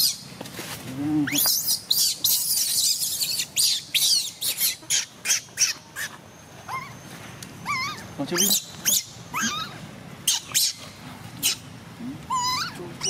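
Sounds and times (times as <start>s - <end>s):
baby macaque squealing: 0.0s - 0.2s, 1.2s - 7.0s, 7.6s - 13.0s.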